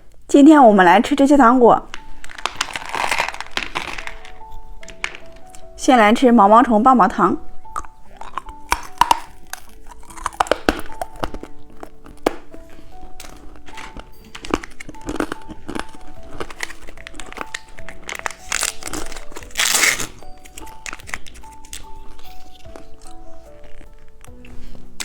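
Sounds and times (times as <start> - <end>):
light background music: 0.0 - 25.0
plastic wrapper crinkling: 1.8 - 5.8, 7.6 - 25.0.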